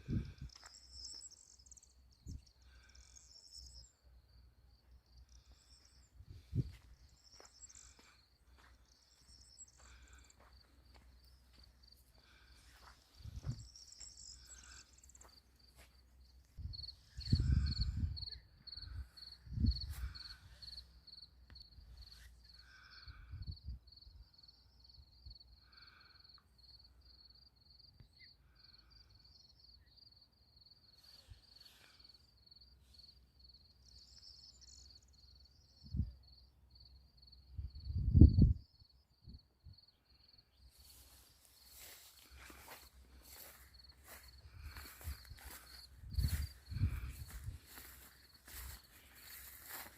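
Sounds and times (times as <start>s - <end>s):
insect chirping: 0.0s - 49.9s.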